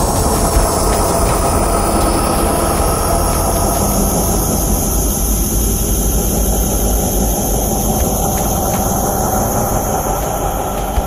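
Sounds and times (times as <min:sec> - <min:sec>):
mechanical drone with high whine: 0:00.0 - 0:11.0.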